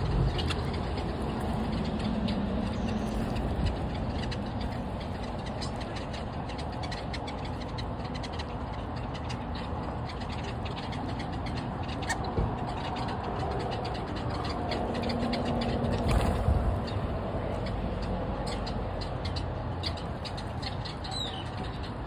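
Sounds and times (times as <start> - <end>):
birds clicking and ticking: 0.0 - 22.0
highway traffic rumble: 0.0 - 22.0.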